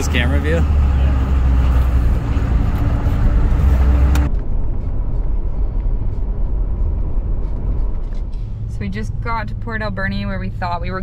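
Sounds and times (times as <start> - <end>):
diesel engine cab drone: 0.0 - 11.0
road noise: 0.0 - 11.0
vehicle driving rumble: 0.0 - 11.0.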